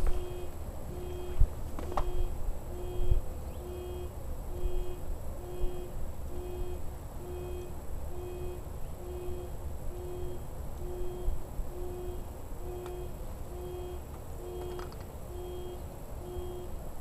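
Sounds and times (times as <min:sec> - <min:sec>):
electronic beeper beeping: 0:02.0 - 0:16.7.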